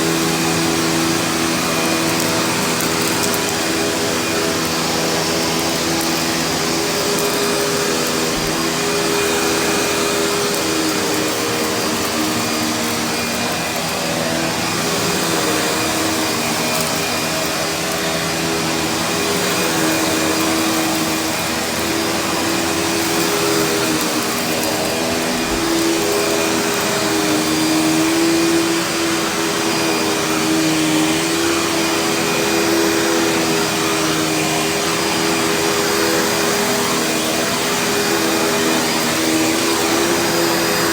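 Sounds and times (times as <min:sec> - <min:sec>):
vacuum cleaner on carpet: 0:00.0 - 0:40.9.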